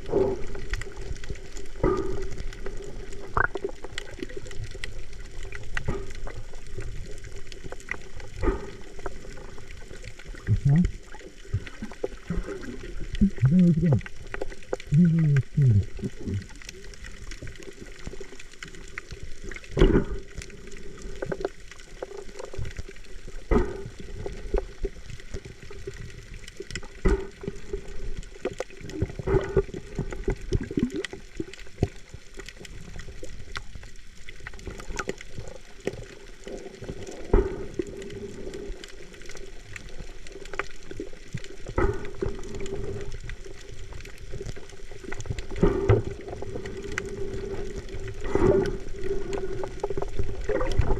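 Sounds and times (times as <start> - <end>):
muffled underwater water sound: 0.0 - 50.9.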